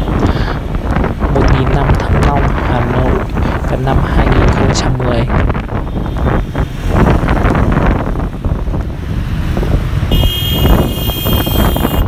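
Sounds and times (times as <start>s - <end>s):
motorbike and car traffic drone: 0.0s - 12.0s
wind buffeting microphone: 0.0s - 12.0s.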